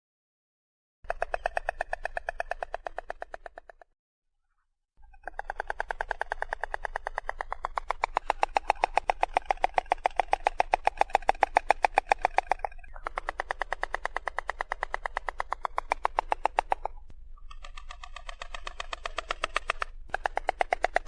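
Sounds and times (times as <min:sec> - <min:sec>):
stork clattering its bill: 0:01.1 - 0:03.8, 0:05.2 - 0:21.0.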